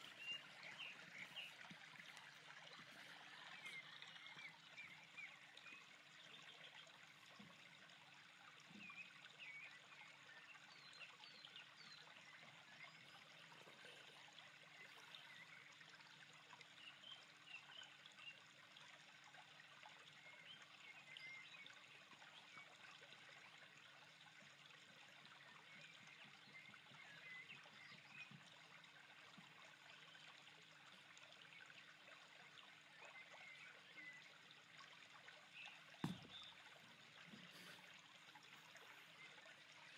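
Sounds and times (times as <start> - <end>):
water trickling and lapping: 0.0 - 39.9.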